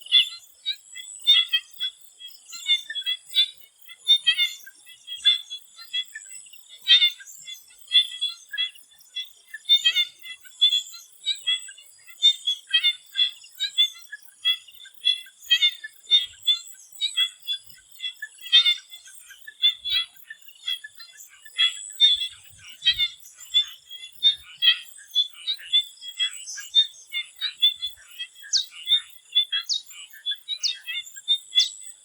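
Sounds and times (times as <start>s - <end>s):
chorus of frogs calling: 0.0s - 32.0s.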